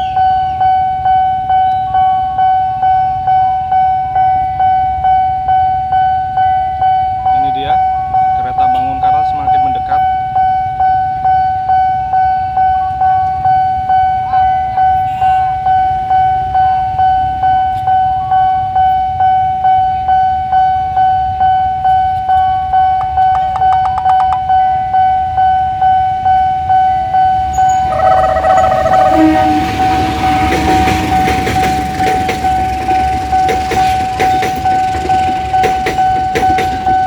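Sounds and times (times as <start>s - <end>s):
approaching train: 0.0s - 37.0s
level crossing warning bell: 0.0s - 37.0s.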